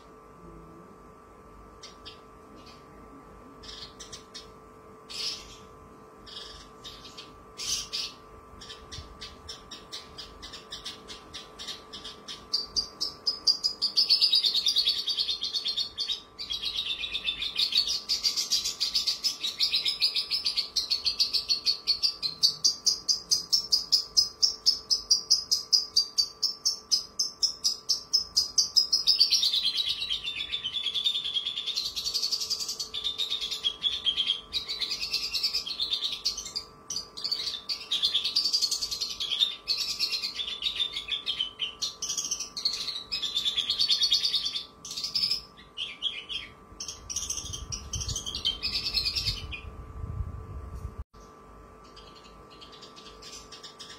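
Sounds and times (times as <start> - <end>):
faint steady hum: 0.0 - 53.9
bird singing rapid sharp notes: 3.6 - 49.8, 51.8 - 53.9.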